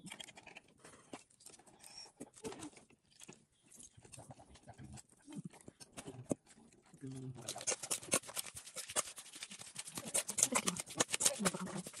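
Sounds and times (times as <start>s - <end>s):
limes squelching: 1.8s - 12.0s.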